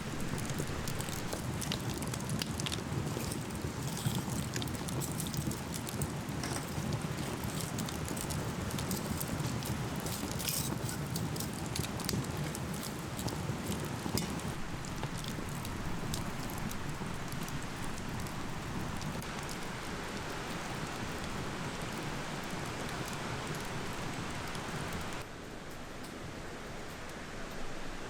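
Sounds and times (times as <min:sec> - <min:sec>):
rain drops pattering: 0:00.0 - 0:28.0.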